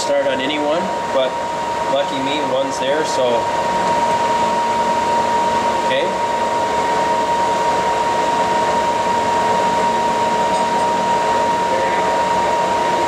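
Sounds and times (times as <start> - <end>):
metal lathe whining: 0.0 - 13.0.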